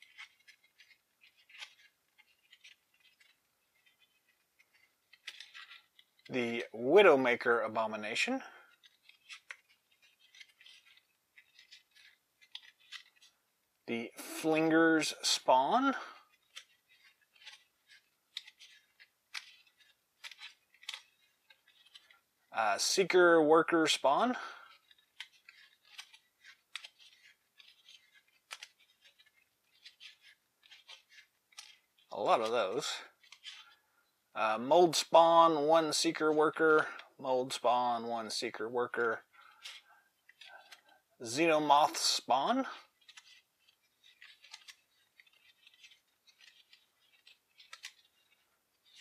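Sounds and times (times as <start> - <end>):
cards clicking and flicking: 0.0 - 7.5, 8.4 - 13.4, 14.2 - 22.3, 22.9 - 33.8, 39.2 - 49.0.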